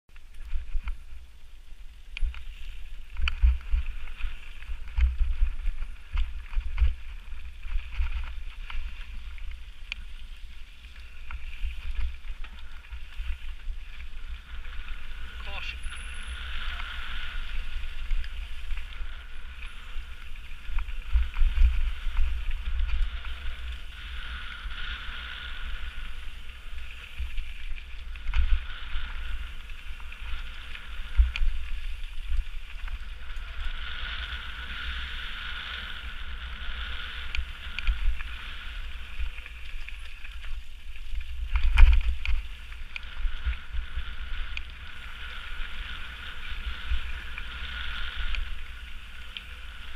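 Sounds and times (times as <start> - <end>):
wind rumbling on microphone: 0.1 - 49.9.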